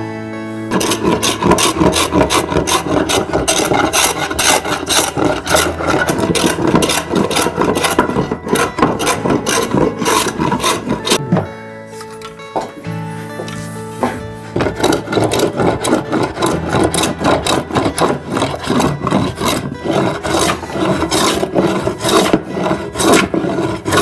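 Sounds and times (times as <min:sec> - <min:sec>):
hand tool rasping a surface: 0:00.7 - 0:11.2, 0:13.6 - 0:24.0.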